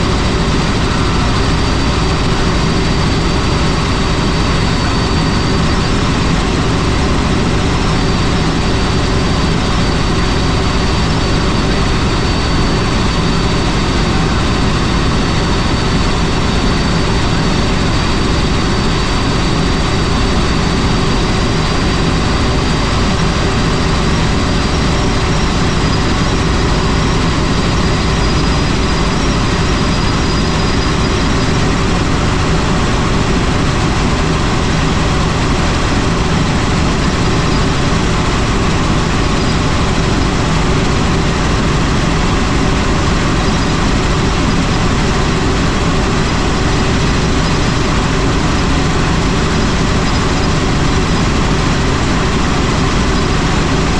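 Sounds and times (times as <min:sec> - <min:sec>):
faint high whine: 0:00.0 - 0:53.9
helicopter rotor and turbine noise: 0:00.0 - 0:53.9.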